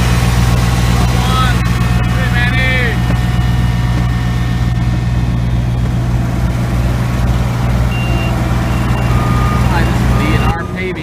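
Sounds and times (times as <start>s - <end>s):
heavy machine engine rumbling: 0.0s - 11.0s.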